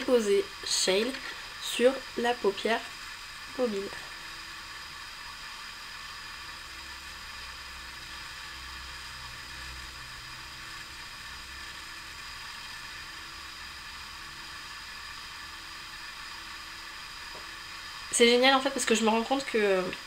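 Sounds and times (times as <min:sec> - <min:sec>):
recording hiss: 0:00.0 - 0:20.0.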